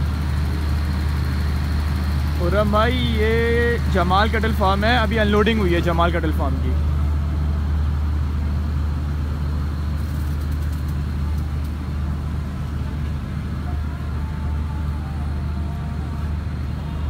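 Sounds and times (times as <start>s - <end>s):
deep steady rumble: 0.0s - 17.0s.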